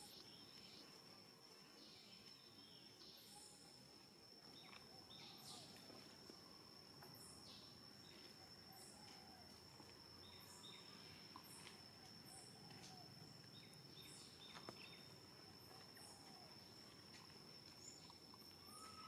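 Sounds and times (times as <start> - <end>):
insect chirps: 0.0 - 19.0
insects droning: 0.0 - 19.0.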